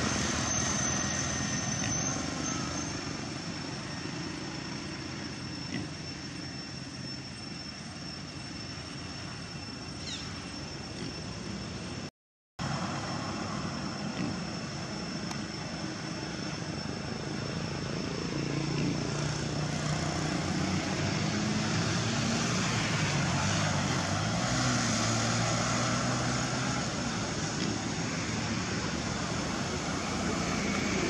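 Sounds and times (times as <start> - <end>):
engine drone: 0.0 - 31.0
thin high whine: 0.0 - 31.0.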